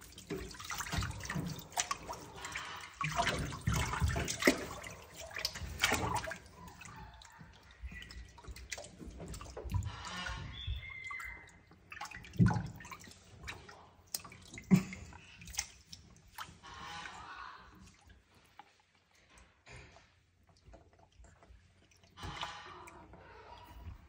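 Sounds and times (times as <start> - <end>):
water splashing and dripping: 0.0 - 24.0.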